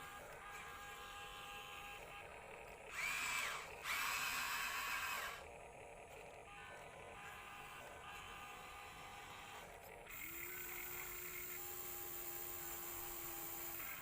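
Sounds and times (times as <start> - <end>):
toy vehicle motors whirring: 0.0 - 14.0.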